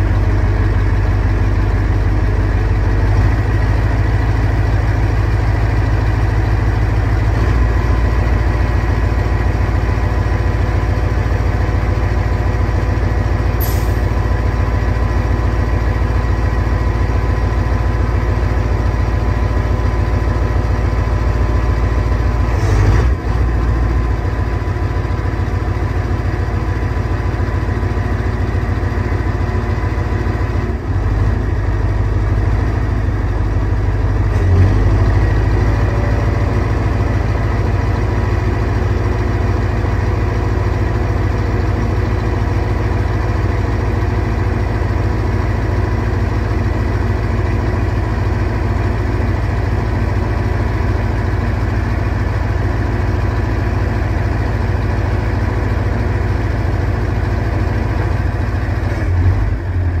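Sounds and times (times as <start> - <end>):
diesel engine idling: 0.0 - 60.0.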